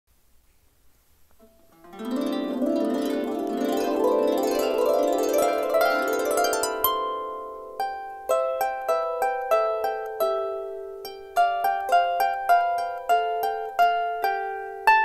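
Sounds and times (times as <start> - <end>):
harp plucked notes: 1.7 - 15.0.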